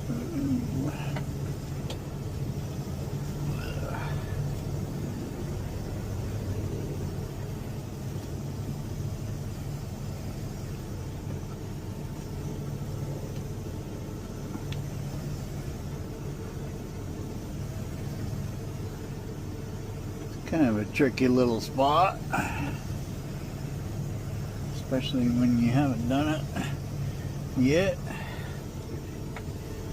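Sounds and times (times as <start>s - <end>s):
diesel truck engine rumbling: 0.0s - 29.9s.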